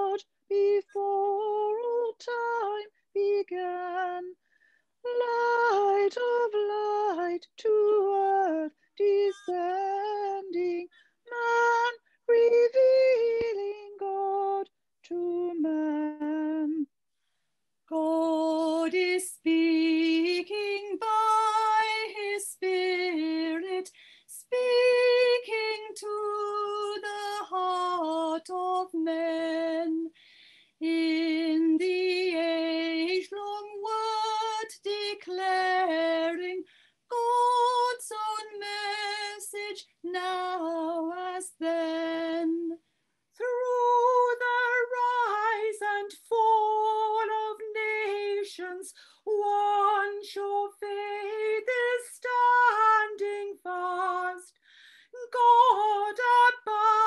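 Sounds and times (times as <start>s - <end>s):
woman singing a hymn solo: 0.0s - 4.4s, 5.0s - 16.9s, 17.9s - 30.1s, 30.8s - 42.8s, 43.4s - 54.5s, 55.2s - 57.0s.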